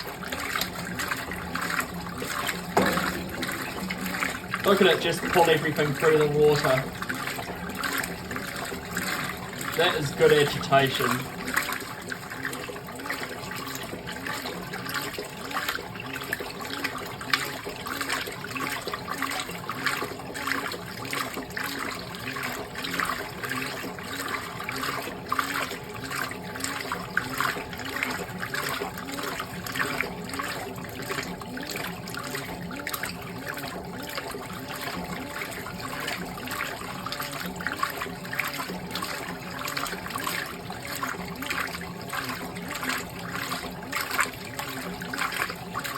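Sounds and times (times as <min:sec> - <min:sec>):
low machine hum: 0:00.0 - 0:45.9
washing machine water sloshing: 0:00.0 - 0:45.9.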